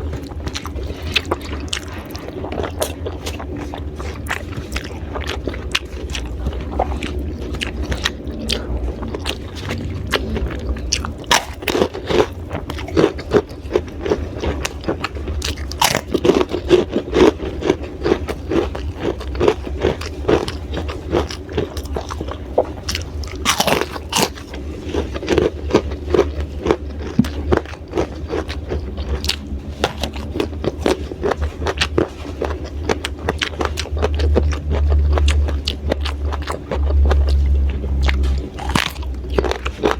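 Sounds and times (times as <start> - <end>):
crunching raw vegetables: 0.0 - 39.9.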